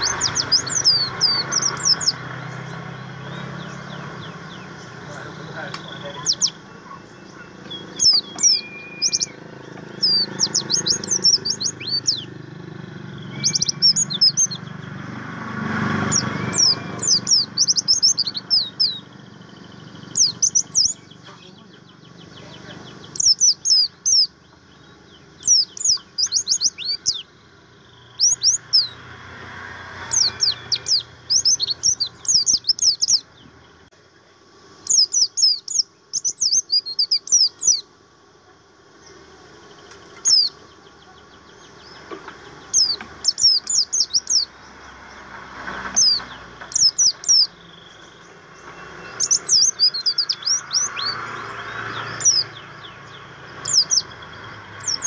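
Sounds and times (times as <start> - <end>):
white-eye bird chirping: 0.0 - 33.9, 34.8 - 38.0, 38.9 - 55.0.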